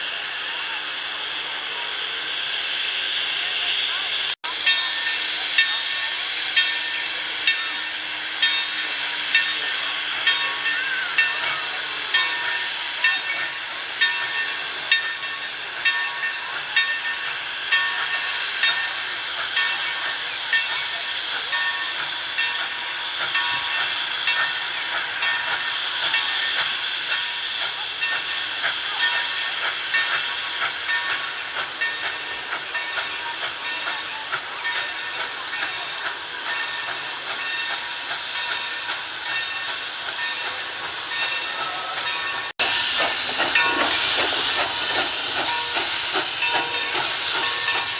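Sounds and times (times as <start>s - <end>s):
steam locomotive hissing: 0.0s - 47.9s.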